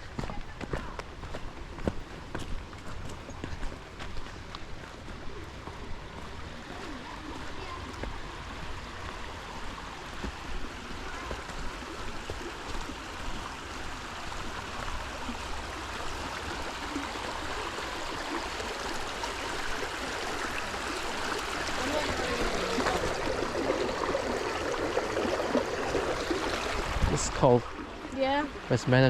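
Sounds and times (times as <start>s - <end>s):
creek water running over rocks: 0.0s - 29.0s.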